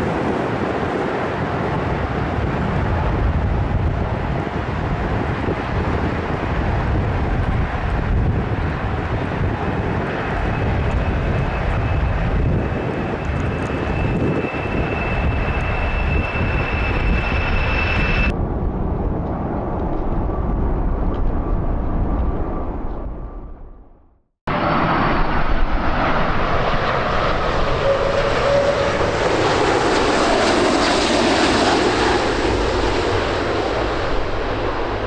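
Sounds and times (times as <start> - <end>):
high jet engine whine: 0.0 - 35.0
jet engines rumbling: 0.0 - 35.0.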